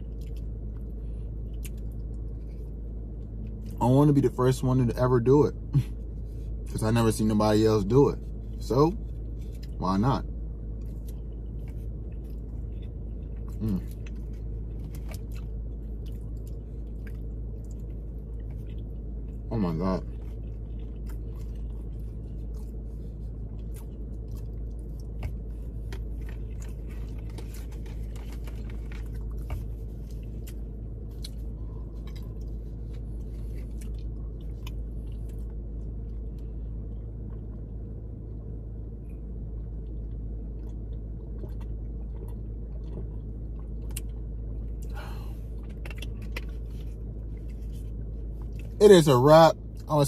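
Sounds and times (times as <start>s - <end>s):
person chewing: 0.0s - 3.8s, 8.3s - 9.8s, 10.7s - 38.0s, 39.0s - 48.8s
low hum in car cabin: 0.0s - 50.0s.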